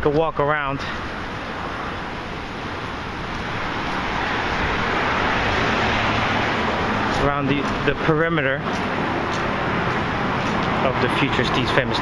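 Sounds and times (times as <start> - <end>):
van tyre and road noise: 0.0 - 12.0.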